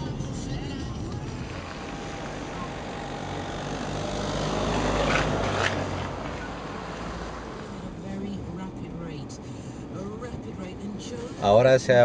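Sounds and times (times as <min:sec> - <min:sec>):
oncoming car passing: 0:00.0 - 0:11.4
car engine and tyre noise: 0:00.0 - 0:12.0.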